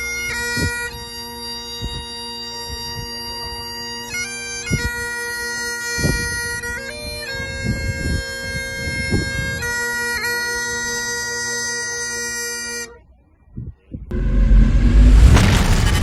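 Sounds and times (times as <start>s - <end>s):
bagpipes playing a tune: 0.0s - 13.0s.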